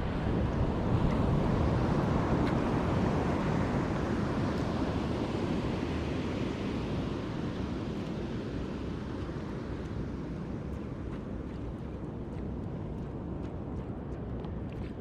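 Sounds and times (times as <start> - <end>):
wind and choppy sea: 0.0 - 15.0.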